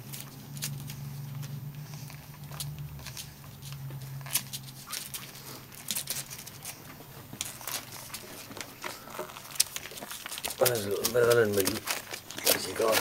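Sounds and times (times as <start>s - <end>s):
low steady hum: 0.0s - 13.0s
puppies suckling and squirming: 0.0s - 13.0s.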